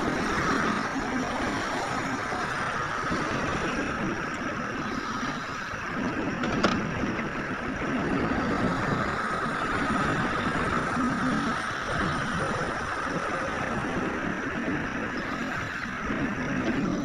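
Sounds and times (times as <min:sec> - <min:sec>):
heavy diesel machinery running: 0:00.0 - 0:17.0.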